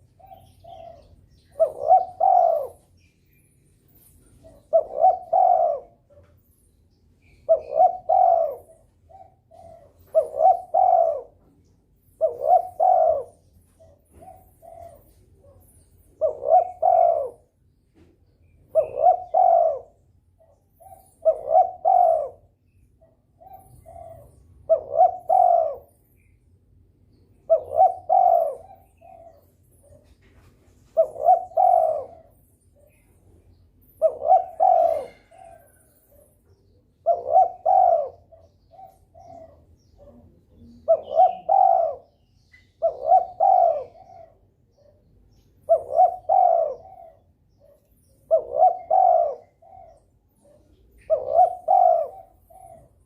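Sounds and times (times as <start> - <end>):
dove cooing: 0.0 - 6.6, 7.2 - 26.3, 27.3 - 53.0.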